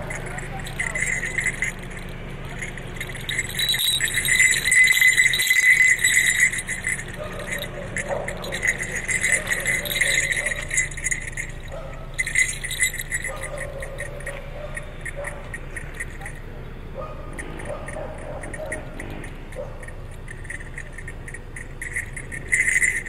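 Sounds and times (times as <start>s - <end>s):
small brass bells shaking: 0.0s - 23.0s.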